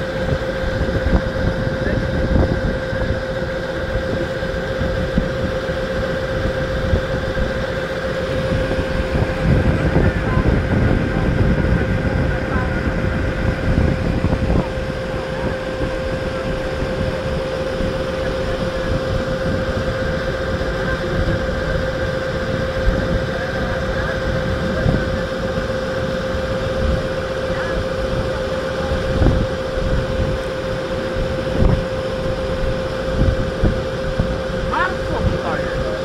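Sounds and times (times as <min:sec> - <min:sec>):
boat engine humming: 0:00.0 - 0:36.0
wind buffeting microphone: 0:00.0 - 0:36.0.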